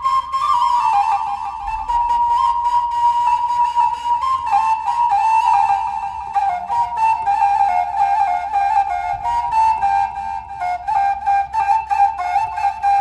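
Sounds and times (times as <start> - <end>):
wind instrument melody over beat: 0.0 - 13.0.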